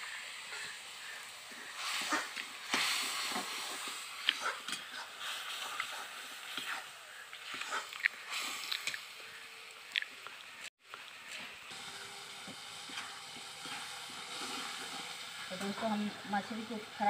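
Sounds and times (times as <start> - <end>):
paste sizzling in pan: 0.0 - 17.0.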